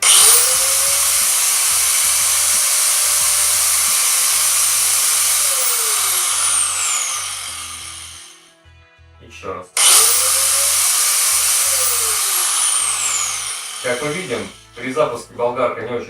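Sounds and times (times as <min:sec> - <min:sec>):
angle grinder whining: 0:00.0 - 0:08.6, 0:09.8 - 0:15.2.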